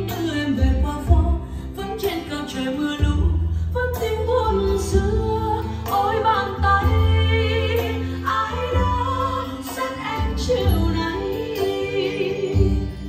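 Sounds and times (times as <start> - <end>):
song with singing and heavy bass: 0.0 - 13.0.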